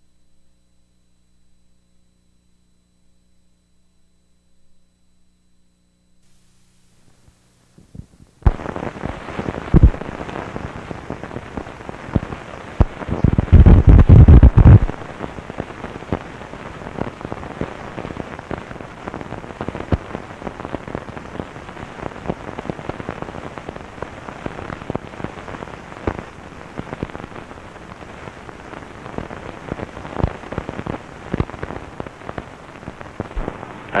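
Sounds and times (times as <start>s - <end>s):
crackle clicks and pops: 0.0s - 34.0s
film soundtrack hiss: 0.0s - 34.0s.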